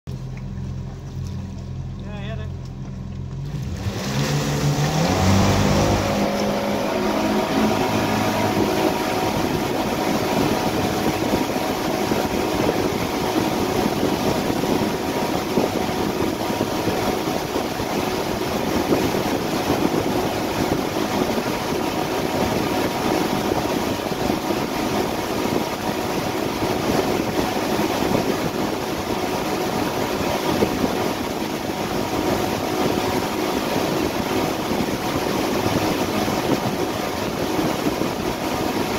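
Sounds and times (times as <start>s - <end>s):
boat engines running: 0.1s - 38.9s
rushing wake water: 0.1s - 38.9s
wind: 0.1s - 38.9s.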